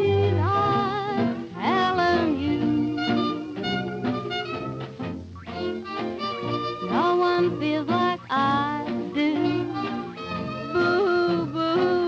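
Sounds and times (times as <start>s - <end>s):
instrumental jazz music: 0.0s - 12.0s.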